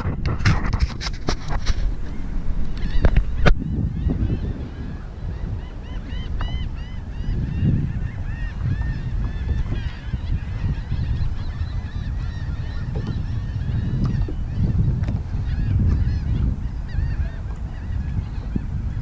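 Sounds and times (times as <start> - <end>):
flock of birds calling: 2.0 - 19.0.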